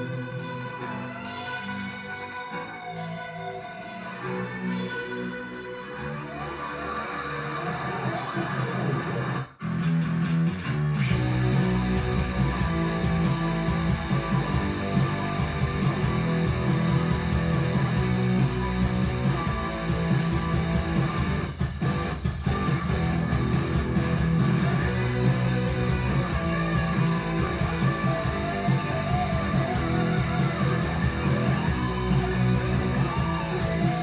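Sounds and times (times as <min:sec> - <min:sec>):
guitar-led rock music: 0:00.0 - 0:34.0.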